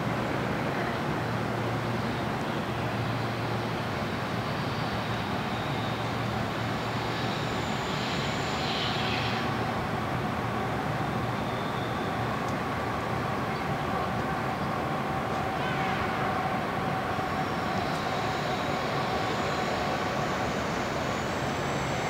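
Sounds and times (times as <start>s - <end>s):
city background rumble: 0.0s - 22.0s.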